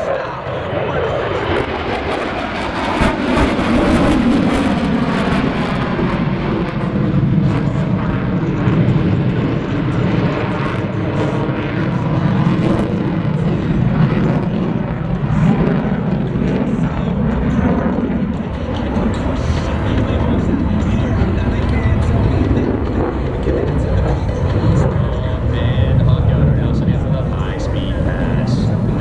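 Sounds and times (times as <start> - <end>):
jet flying past: 0.0 - 29.0.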